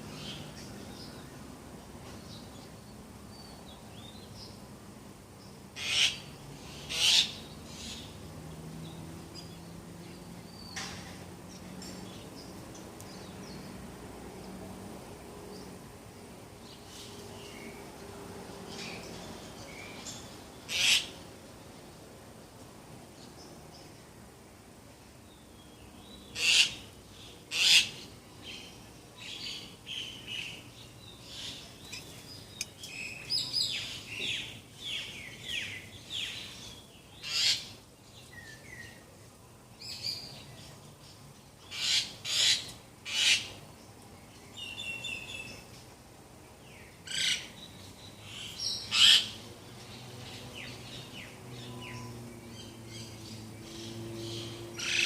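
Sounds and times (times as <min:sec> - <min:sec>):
birds calling and chirping: 0:00.0 - 0:04.7, 0:05.4 - 0:13.9, 0:16.6 - 0:21.2, 0:25.3 - 0:39.1, 0:39.8 - 0:45.9, 0:46.5 - 0:55.0.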